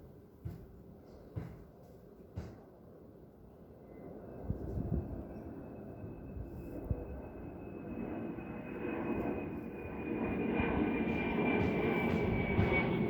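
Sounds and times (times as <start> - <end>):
aeroplane rumble overhead: 0.0 - 13.0.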